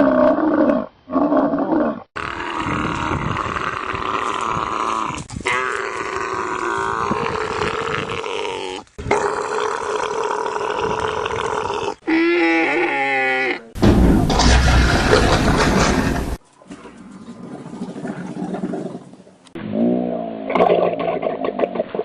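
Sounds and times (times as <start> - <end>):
camels bellowing and growling: 0.0 - 21.4.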